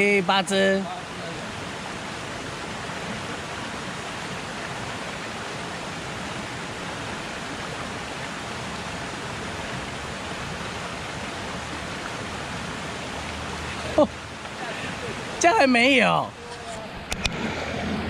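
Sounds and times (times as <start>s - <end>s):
stream rushing over stones: 0.0s - 18.0s.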